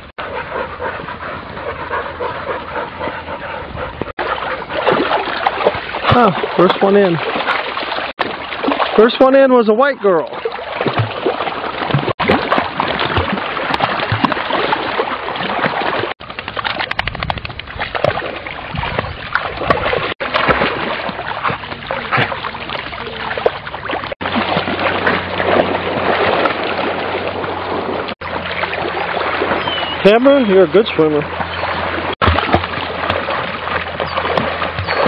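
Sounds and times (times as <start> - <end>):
puppies splashing in water: 0.0 - 35.0.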